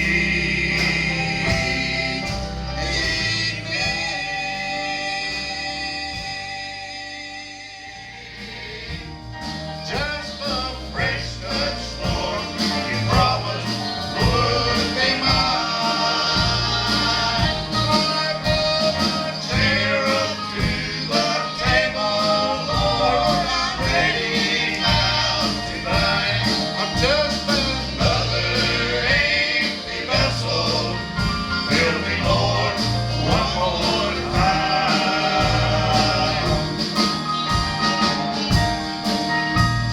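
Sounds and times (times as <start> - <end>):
bass line: 0.0 - 39.9
gospel quartet singing: 0.0 - 39.9
instrumental accompaniment: 0.0 - 39.9.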